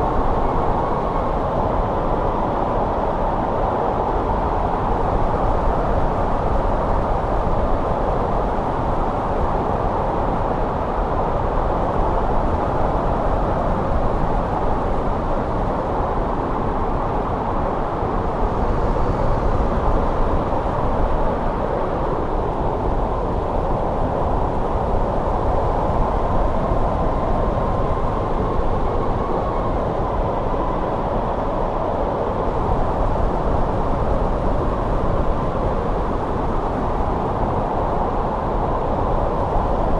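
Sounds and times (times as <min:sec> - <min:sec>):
faint wind whistling: 0:00.0 - 0:39.9
wind blowing in a snowstorm: 0:00.0 - 0:39.9.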